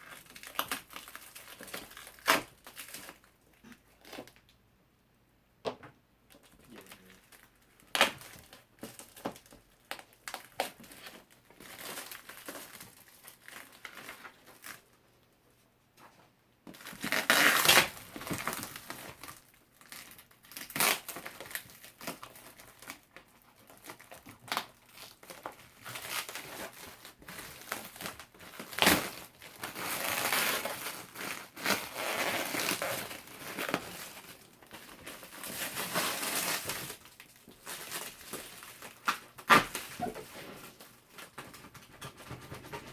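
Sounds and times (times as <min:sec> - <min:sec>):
cardboard and plastic crinkling: 0:00.1 - 0:04.4, 0:06.3 - 0:14.9, 0:16.7 - 0:42.9.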